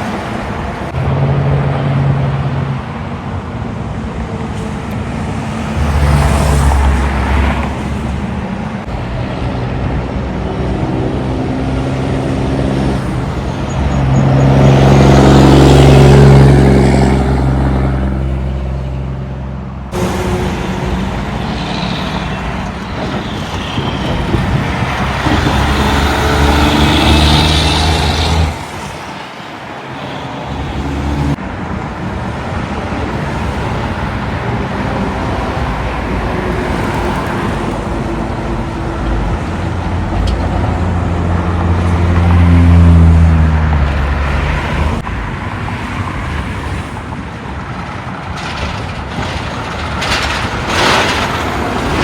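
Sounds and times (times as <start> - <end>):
heavy diesel trucks driving past: 0.0 - 52.0.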